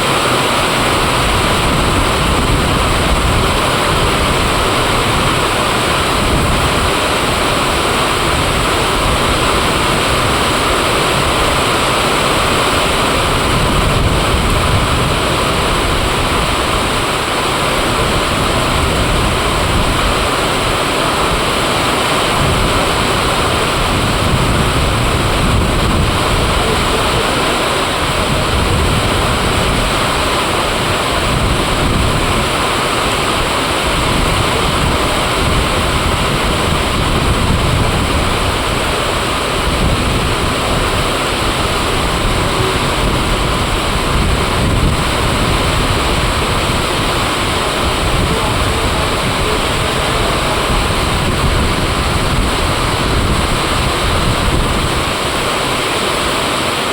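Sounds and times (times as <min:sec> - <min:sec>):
heavy rainfall hiss: 0:00.0 - 0:56.9
wind gusting on microphone: 0:00.0 - 0:56.9.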